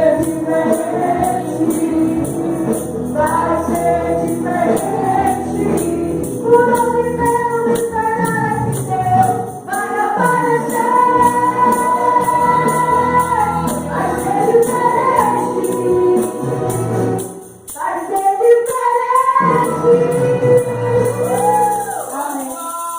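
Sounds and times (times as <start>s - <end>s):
voices singing a hymn: 0.0s - 17.4s, 18.2s - 22.9s
tambourine shaking: 0.0s - 22.9s.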